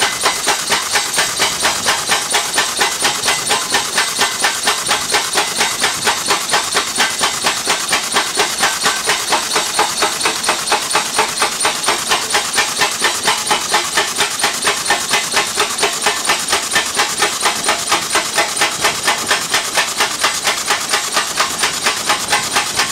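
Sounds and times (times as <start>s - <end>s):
pile hammer hammering: 0.0s - 22.9s.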